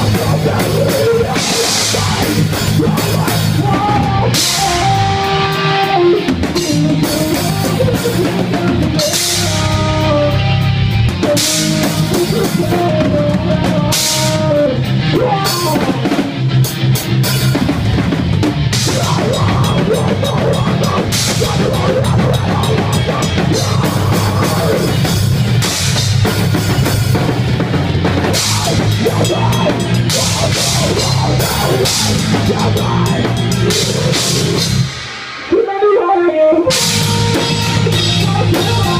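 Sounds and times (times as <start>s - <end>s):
drum kit beating: 0.0s - 38.9s
rock band playing live: 0.0s - 38.9s.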